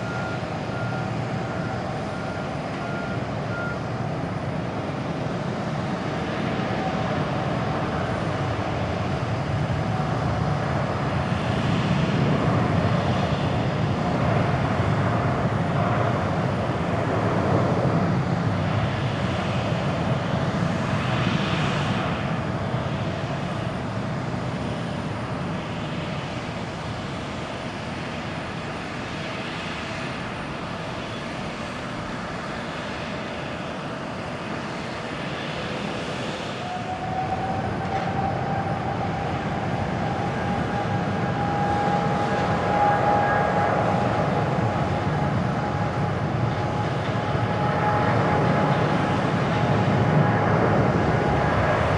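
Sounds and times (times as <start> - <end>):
jet engines roaring at takeoff: 0.0 - 51.9.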